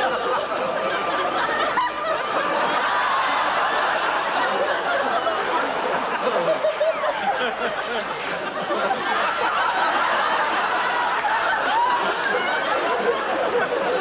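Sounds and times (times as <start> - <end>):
audience laughing: 0.0 - 14.0.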